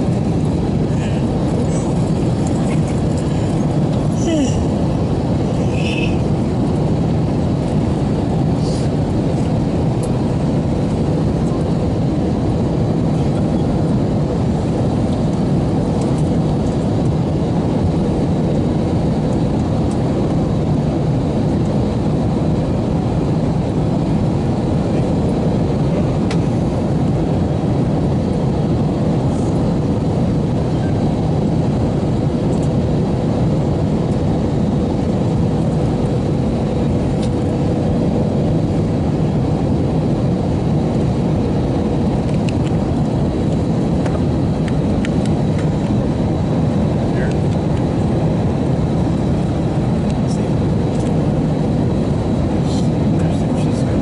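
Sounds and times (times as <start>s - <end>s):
aircraft cabin engine rush: 0.0s - 54.0s.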